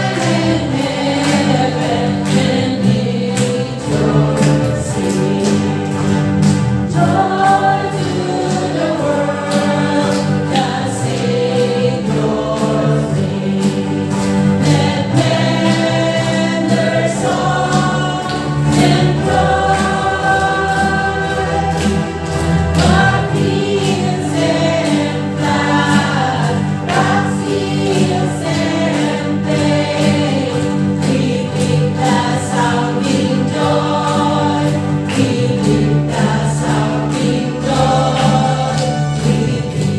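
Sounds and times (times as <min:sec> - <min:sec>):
choir singing a carol: 0:00.0 - 0:39.9
instrumental accompaniment: 0:00.0 - 0:39.9.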